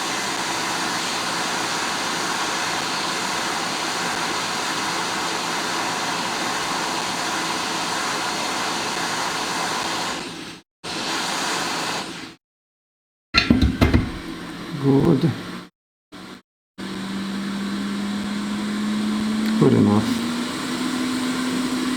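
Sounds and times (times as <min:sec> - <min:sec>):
hot air blower hissing: 0:00.0 - 0:12.4, 0:13.4 - 0:15.6, 0:16.2 - 0:21.9.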